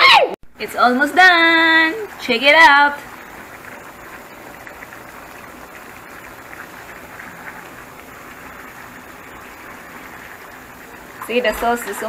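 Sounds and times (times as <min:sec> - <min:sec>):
sauce bubbling and sizzling in a pan: 0:00.6 - 0:12.0.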